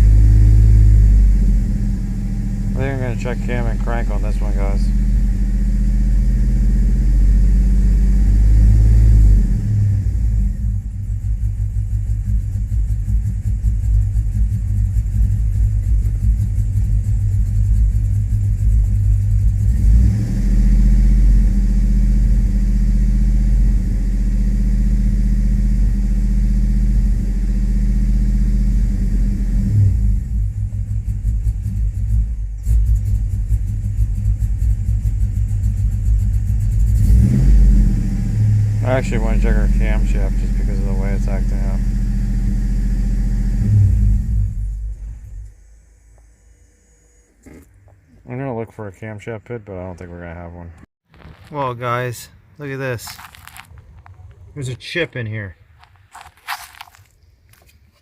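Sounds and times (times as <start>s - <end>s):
engine running rough: 0.0s - 55.0s.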